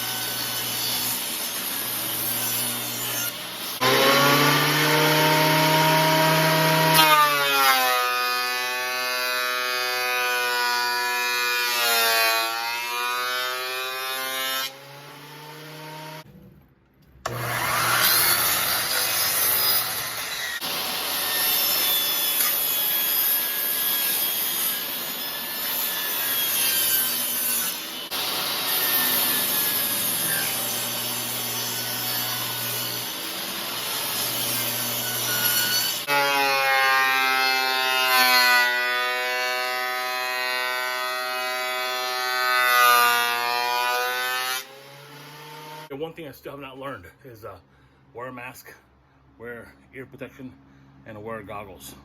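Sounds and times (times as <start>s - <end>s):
blades cutting through wood: 0.0s - 16.3s, 17.2s - 45.9s.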